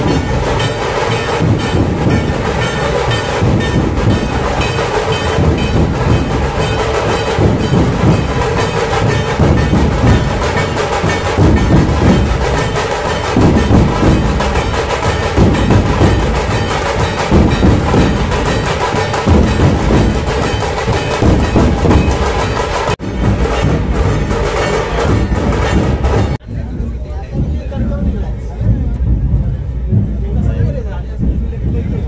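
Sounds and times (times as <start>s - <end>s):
drums beating in driving rhythm: 0.0s - 32.0s.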